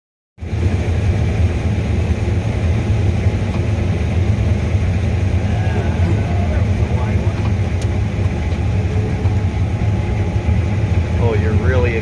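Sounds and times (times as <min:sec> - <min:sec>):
combine harvester engine drone: 0:00.4 - 0:12.0.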